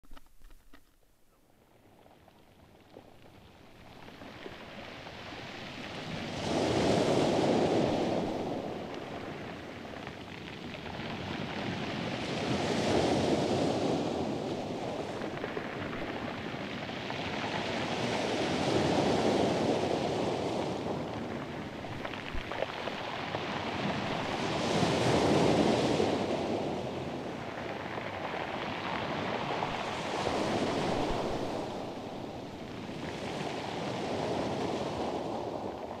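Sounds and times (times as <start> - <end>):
ocean surf washing in: 5.1 - 36.0.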